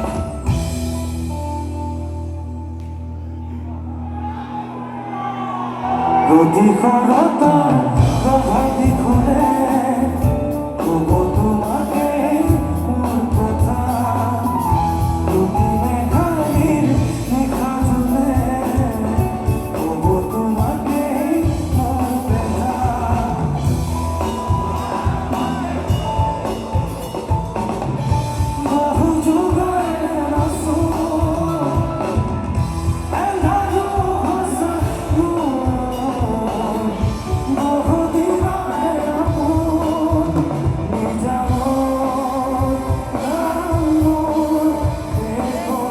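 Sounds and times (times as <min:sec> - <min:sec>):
live band playing: 0:00.0 - 0:04.3, 0:05.7 - 0:45.9
person singing: 0:05.5 - 0:45.9.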